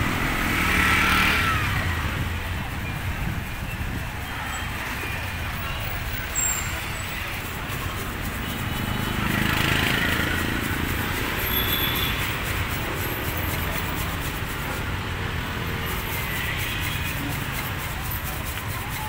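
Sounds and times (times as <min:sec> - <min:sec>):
passing traffic: 0:00.0 - 0:19.0.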